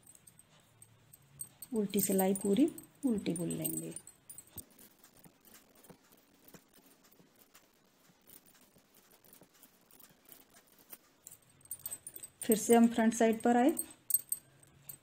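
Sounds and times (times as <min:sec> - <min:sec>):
knitting needles clicking: 0:00.0 - 0:15.0.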